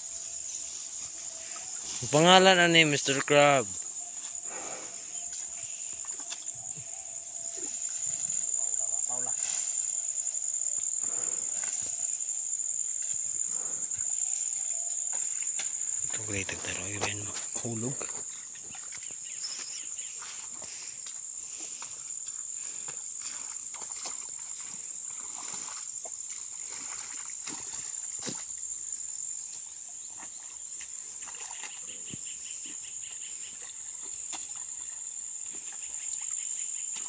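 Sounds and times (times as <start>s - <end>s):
insects chirring: 0.0s - 37.0s
wading through tall grass: 0.0s - 37.0s.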